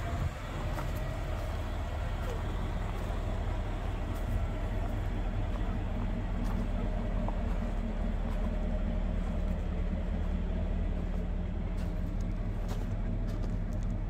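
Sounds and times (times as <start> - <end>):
truck engine idling: 0.0 - 14.0
footsteps crunching on gravel: 0.2 - 14.0.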